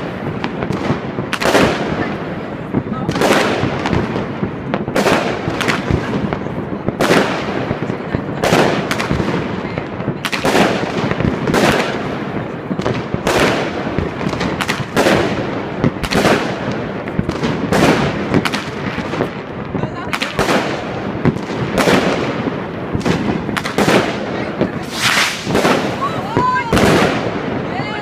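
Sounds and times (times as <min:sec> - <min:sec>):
continuous background noise: 0:00.0 - 0:28.0
fireworks bursting: 0:00.0 - 0:28.0.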